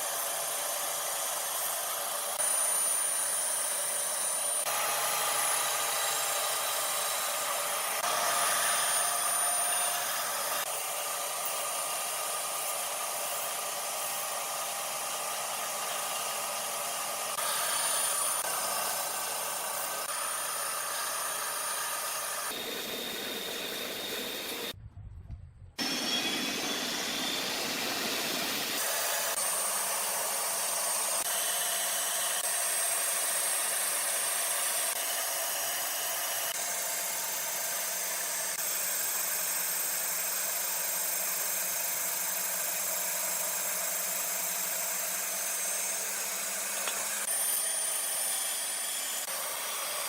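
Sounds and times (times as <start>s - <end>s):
power tool whirring on wood: 0.0s - 24.8s, 25.8s - 50.0s.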